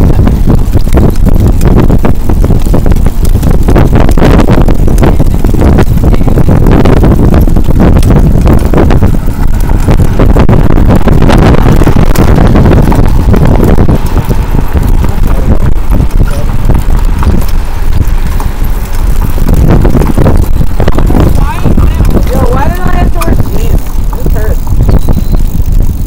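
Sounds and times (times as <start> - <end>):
trailer rolling on pavement: 0.0 - 26.0
wind buffeting microphone: 0.0 - 26.0.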